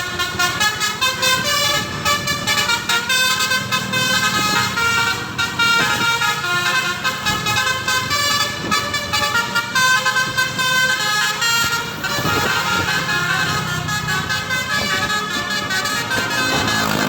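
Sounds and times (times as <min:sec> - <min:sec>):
bus musical horn playing notes: 0:00.0 - 0:17.0.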